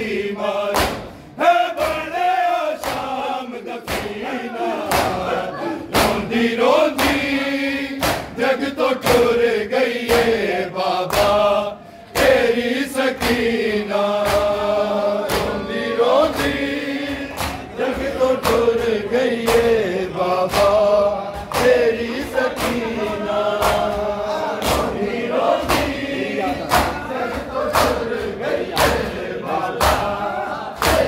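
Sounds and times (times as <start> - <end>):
men chanting together: 0.0 - 31.0
hands slapping chests: 0.5 - 2.2, 2.8 - 3.2, 3.8 - 4.2, 4.8 - 5.3, 5.9 - 11.5, 12.1 - 31.0.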